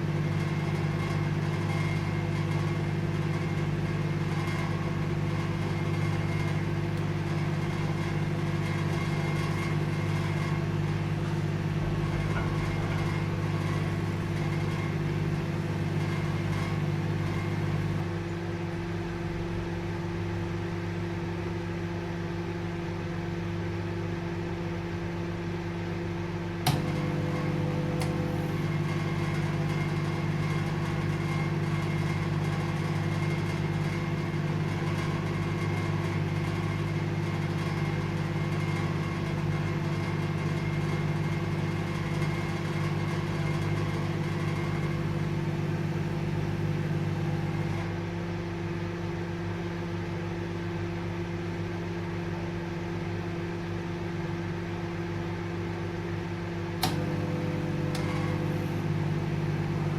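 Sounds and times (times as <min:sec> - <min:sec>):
fan whir: 0:00.0 - 0:59.9
microwave oven humming: 0:00.0 - 0:59.9.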